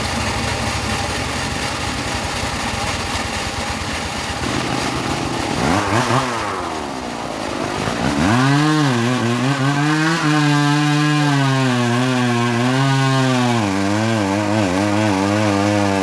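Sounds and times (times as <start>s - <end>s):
sawmill engine running under load: 0.0s - 16.0s.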